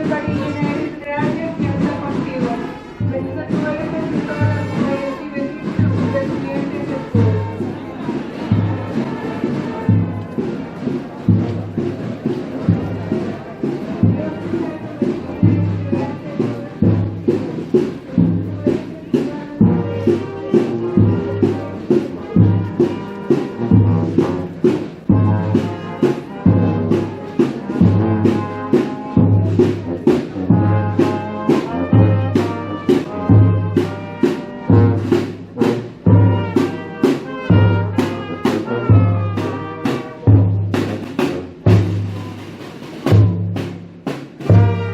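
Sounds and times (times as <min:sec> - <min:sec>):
brass band playing march: 0:00.0 - 0:44.9
drums: 0:00.0 - 0:44.9.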